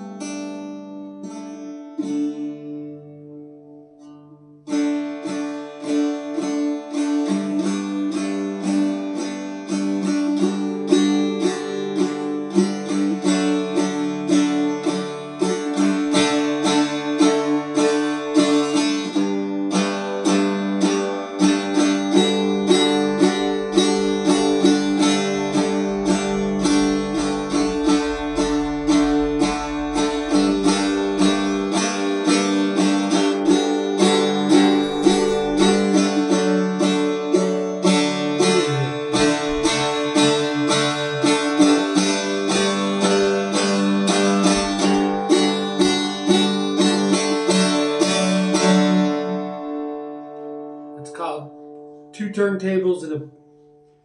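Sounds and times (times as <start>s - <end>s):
guitar strumming: 0.0s - 54.0s.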